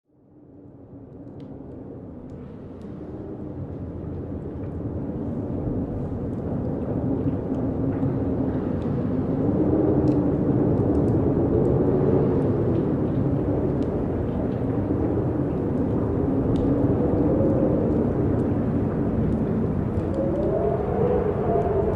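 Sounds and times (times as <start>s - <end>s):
strong wind blowing: 2.0s - 21.9s.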